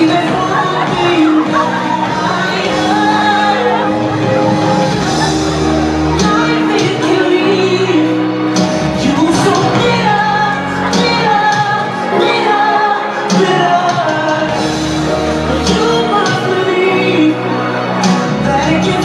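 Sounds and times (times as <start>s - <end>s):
bass notes: 0.0s - 19.0s
person singing: 0.0s - 19.0s.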